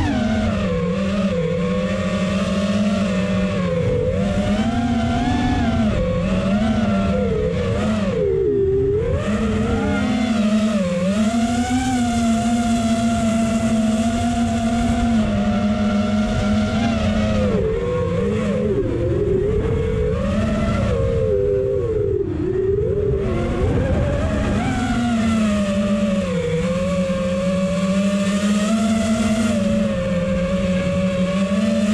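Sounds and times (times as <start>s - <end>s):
quadcopter motors whining: 0.0s - 31.9s.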